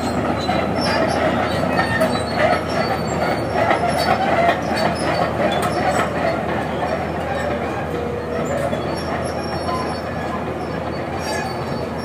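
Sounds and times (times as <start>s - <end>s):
excavator tracks clattering and squealing: 0.0s - 12.0s.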